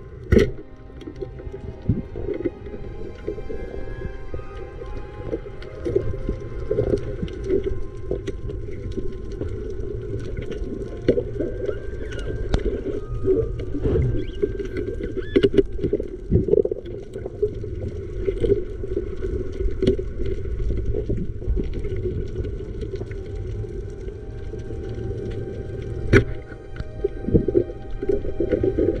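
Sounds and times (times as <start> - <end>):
muffled underwater rumble: 0.0 - 29.0.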